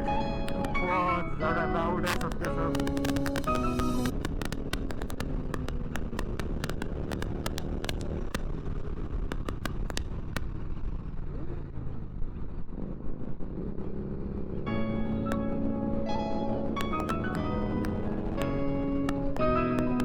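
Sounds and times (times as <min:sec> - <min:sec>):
motorcycle running: 0:00.0 - 0:20.0.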